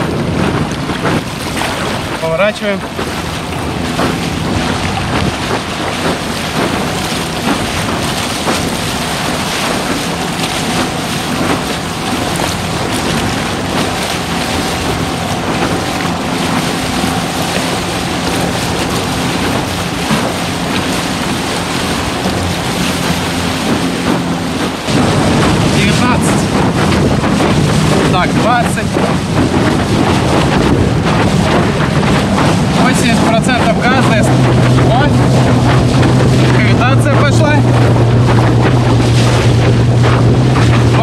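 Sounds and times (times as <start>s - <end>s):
water rushing and splashing: 0.0s - 41.0s
wind buffeting microphone: 0.0s - 41.0s.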